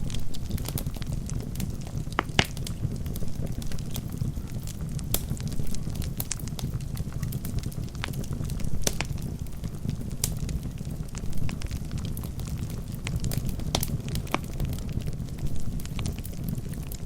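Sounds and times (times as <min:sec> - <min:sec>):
burning logs popping and crackling: 0:00.0 - 0:17.0
flames rumbling in fireplace: 0:00.0 - 0:17.0.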